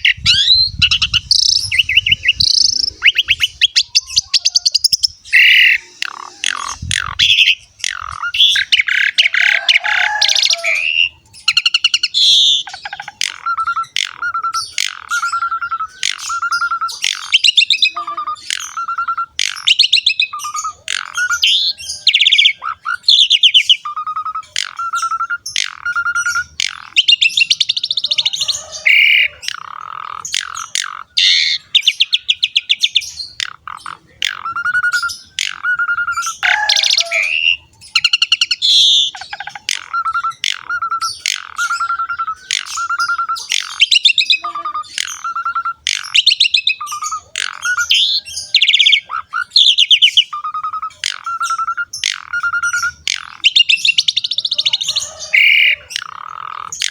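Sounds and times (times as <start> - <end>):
starling singing: 0.0 - 56.9.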